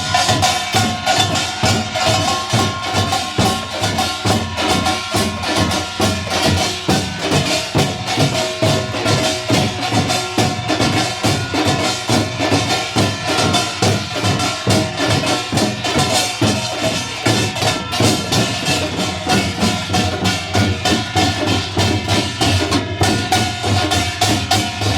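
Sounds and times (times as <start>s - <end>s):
percussion ensemble drumming: 0.0s - 24.9s
ringing metallic gong: 0.0s - 24.9s.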